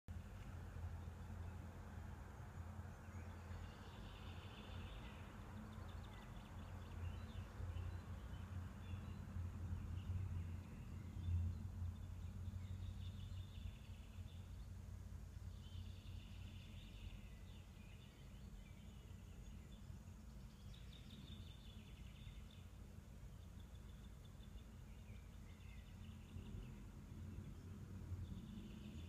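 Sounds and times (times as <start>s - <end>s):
faint birdsong: 0.1s - 29.0s
low steady hum: 0.1s - 29.0s.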